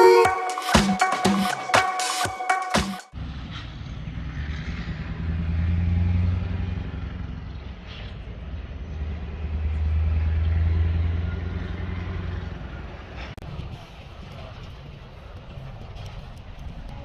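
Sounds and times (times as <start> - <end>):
vehicle engine rumble: 3.1 - 17.0.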